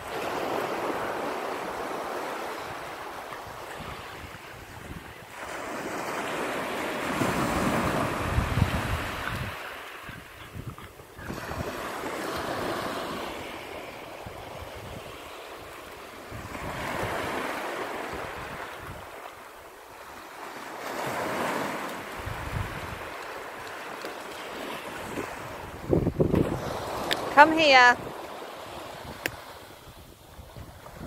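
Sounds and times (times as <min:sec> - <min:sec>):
wind rumbling on microphone: 0:00.0 - 0:19.3, 0:21.0 - 0:31.0
small waves washing up beach: 0:00.0 - 0:31.0.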